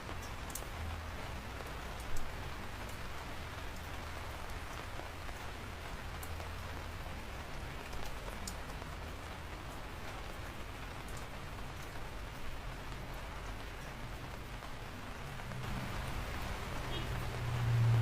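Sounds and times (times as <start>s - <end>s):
raindrops ticking close by: 0.0s - 18.0s
steady rain hiss: 0.0s - 18.0s.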